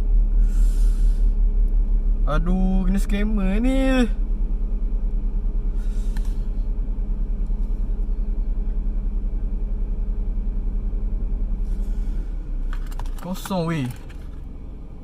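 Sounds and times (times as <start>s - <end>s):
pulsing mechanical hum: 0.0s - 15.0s.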